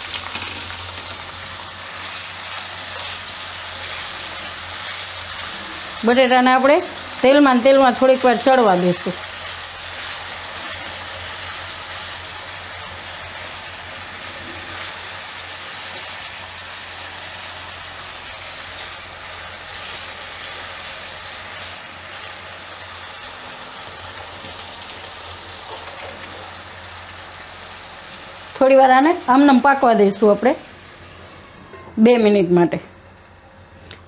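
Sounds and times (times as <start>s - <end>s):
potatoes sizzling in hot oil: 0.0s - 31.3s.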